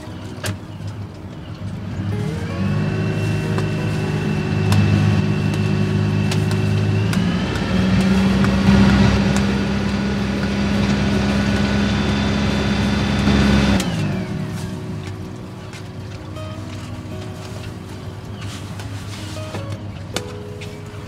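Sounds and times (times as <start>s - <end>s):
boat diesel engine running: 0.0s - 21.0s.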